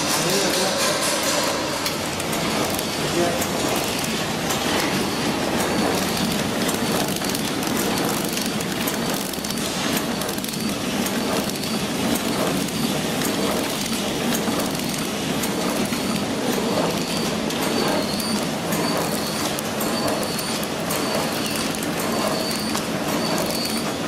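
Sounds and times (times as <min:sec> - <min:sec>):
wrapping machine clattering: 0:00.0 - 0:24.0.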